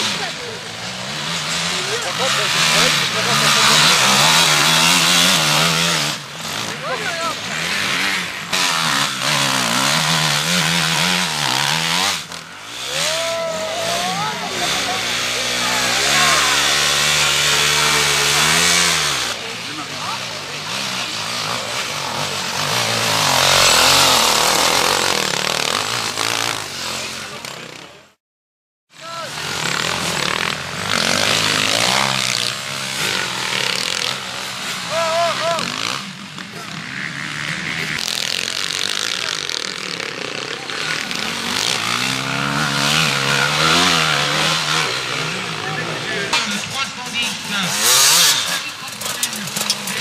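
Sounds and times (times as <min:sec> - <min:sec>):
motorcycle engine revving: 0:00.0 - 0:28.2, 0:28.9 - 0:50.0.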